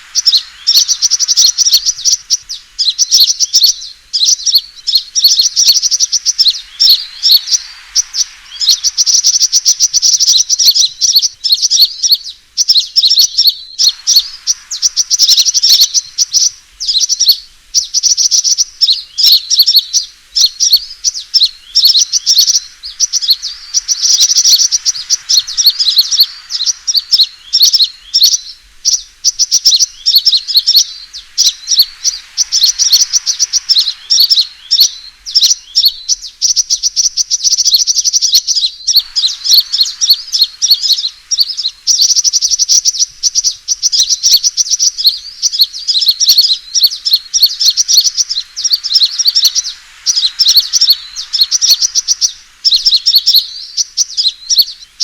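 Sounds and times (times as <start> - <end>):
sunbird chirps and trills: 0.0 - 55.0.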